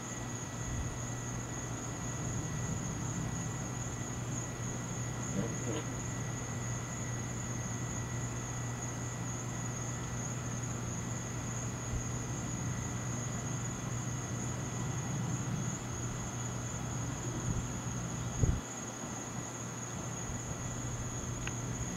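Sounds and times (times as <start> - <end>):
night insects droning: 0.0 - 21.9.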